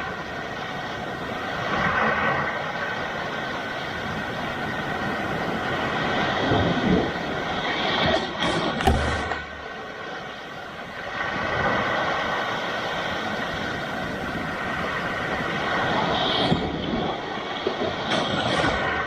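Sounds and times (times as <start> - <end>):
waves breaking on rocks: 0.0 - 19.0.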